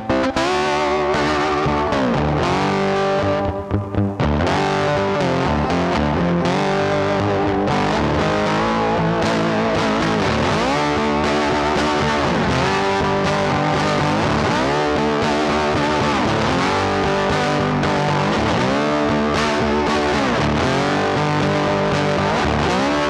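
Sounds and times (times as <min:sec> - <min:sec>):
distorted electric guitar music: 0:00.0 - 0:23.0.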